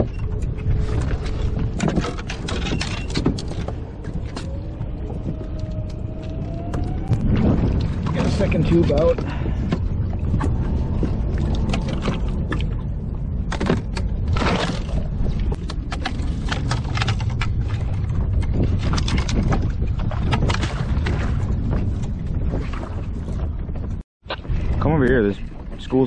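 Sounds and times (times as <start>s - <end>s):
water washing against kayak hull: 0.0s - 26.0s
wind rumble on microphone: 0.0s - 26.0s.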